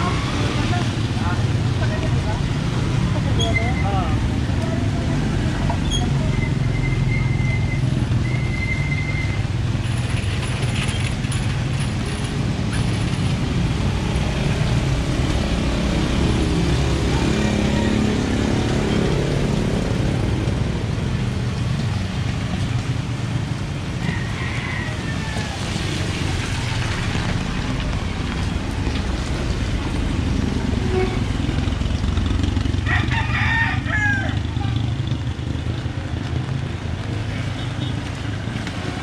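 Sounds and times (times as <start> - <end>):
steady low traffic rumble: 0.0 - 39.0
vehicles passing: 0.0 - 39.0.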